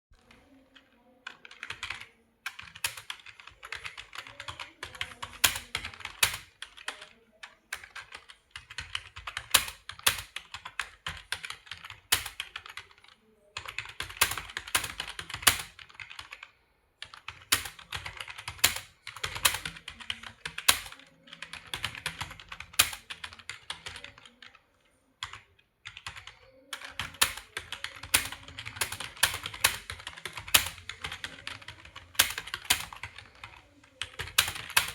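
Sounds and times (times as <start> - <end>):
fast typing on keyboard: 0.2 - 24.6, 25.2 - 34.9.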